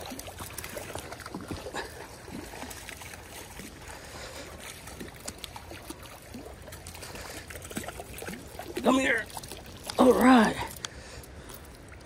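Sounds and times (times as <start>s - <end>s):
fish splashing at water surface: 0.0s - 12.0s
running water: 0.0s - 12.0s.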